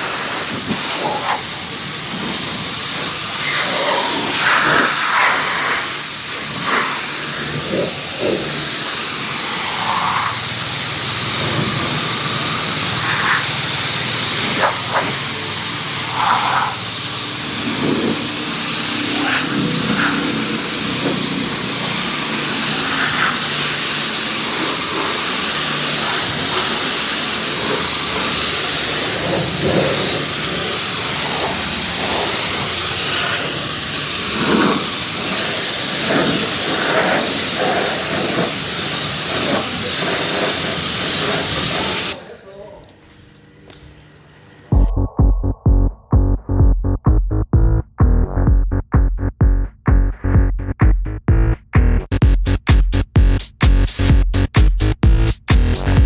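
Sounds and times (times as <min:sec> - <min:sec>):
pressure washer spraying water: 0:00.0 - 0:44.9, 0:52.2 - 0:56.0.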